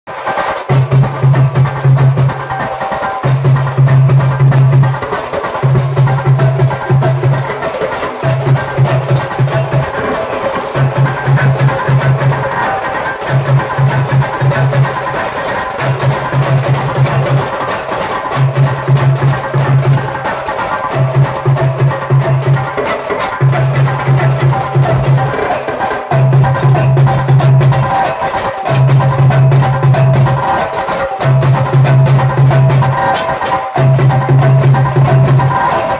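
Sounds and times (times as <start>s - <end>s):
drum and percussion rhythms: 0.1s - 35.9s.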